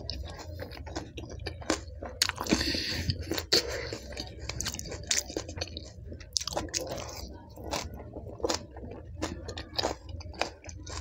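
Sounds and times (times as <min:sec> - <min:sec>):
crunching and wet chewing: 0:00.0 - 0:11.0.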